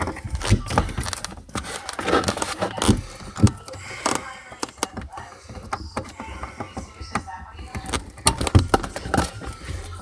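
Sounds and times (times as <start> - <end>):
hands tapping plastic parts: 0.0 - 10.0.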